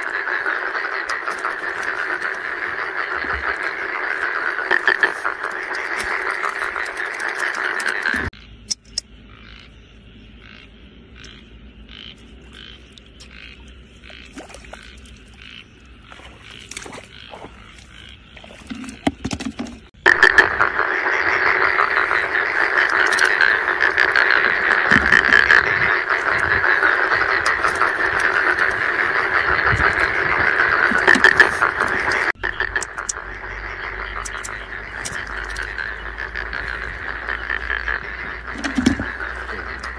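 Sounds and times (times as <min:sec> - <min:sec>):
frog calling: 0:00.0 - 0:39.9
frog chorus: 0:00.0 - 0:39.9.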